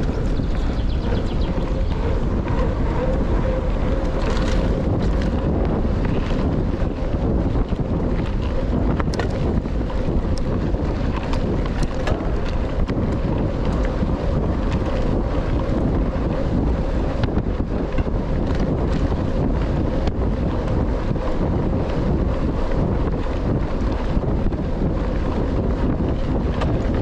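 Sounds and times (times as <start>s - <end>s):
bike clicks and rattles: 0.0s - 27.0s
tyres rumbling over trail: 0.0s - 27.0s
wind buffeting microphone: 0.0s - 27.0s.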